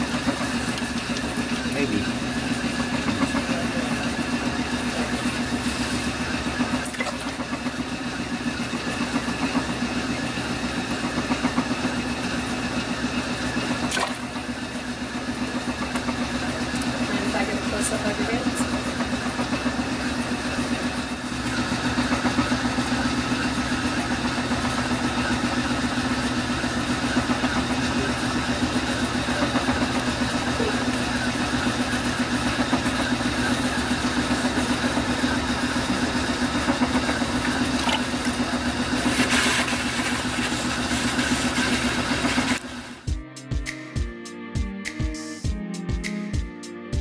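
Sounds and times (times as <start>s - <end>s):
potter's wheel motor humming: 0.0s - 43.1s.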